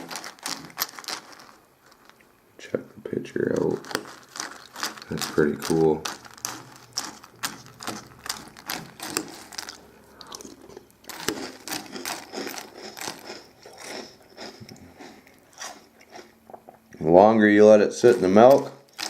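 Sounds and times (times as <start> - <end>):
crunchy cereal chewing: 0.0 - 2.3, 3.3 - 17.0, 17.9 - 19.0.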